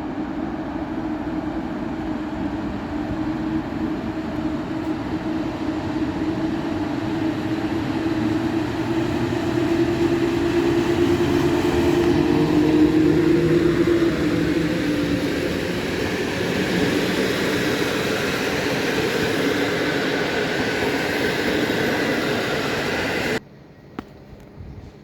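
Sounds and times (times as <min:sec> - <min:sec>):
train rumbling on tracks: 0:00.0 - 0:23.4.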